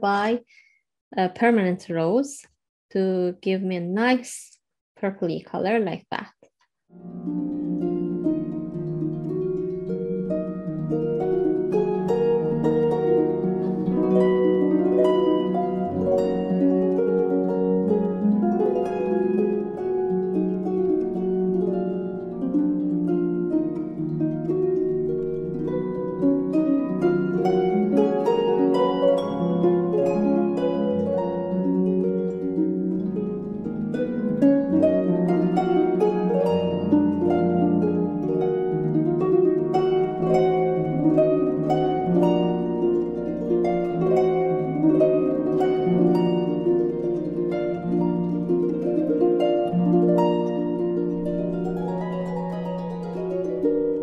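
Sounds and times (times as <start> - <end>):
plucked string music: 6.9 - 54.0.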